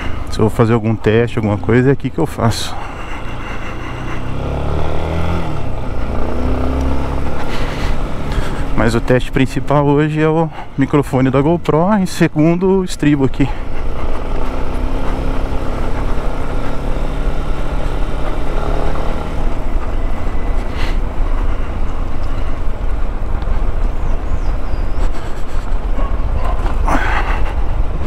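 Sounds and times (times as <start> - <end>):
motorcycle engine running: 2.3 - 11.6, 12.5 - 28.0.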